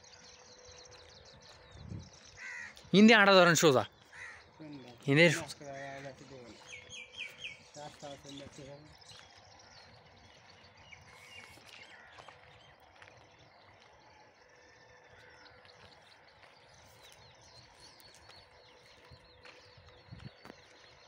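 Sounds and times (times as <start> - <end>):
faint bird chirps: 4.1 - 21.0.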